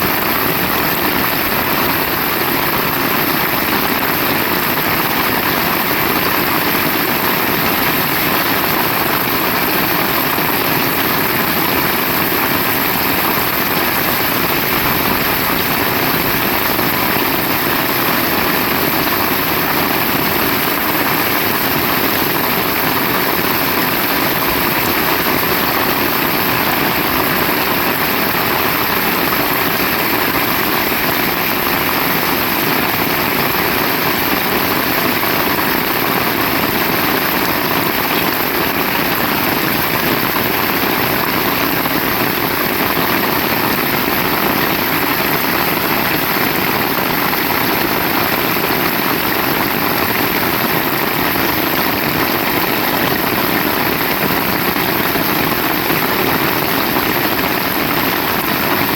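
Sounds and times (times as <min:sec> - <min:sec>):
heavy rain pouring: 0:00.1 - 0:58.9.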